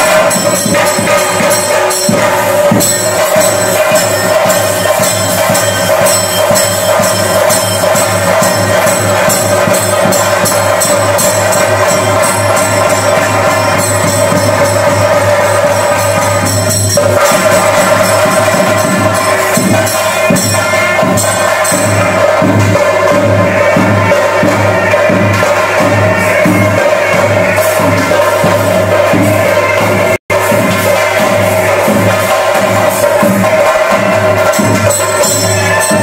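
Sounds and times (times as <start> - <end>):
rapid drum strokes: 0.0 - 36.0.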